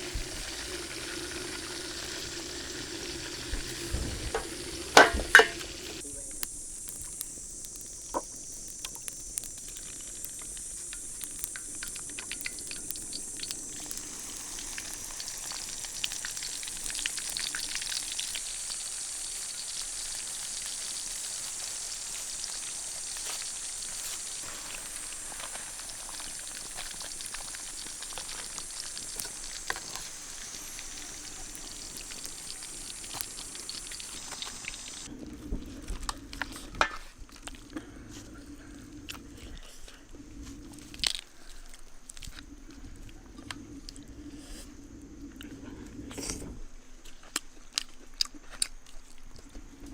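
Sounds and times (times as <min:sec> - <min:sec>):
oil sizzling with crackles and pops: 0:00.0 - 0:49.9.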